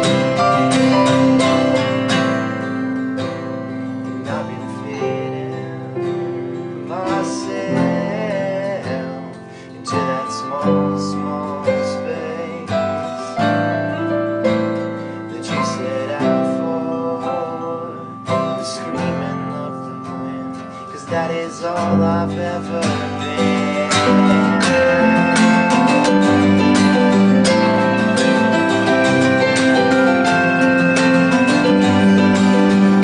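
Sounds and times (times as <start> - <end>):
acoustic guitars strumming: 0.0 - 33.0
keyboard: 0.0 - 33.0.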